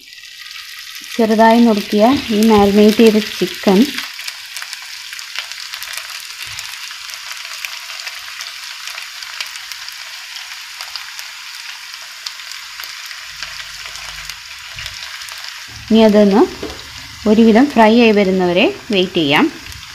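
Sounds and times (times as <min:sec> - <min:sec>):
chicken frying in oil: 0:00.0 - 0:19.9.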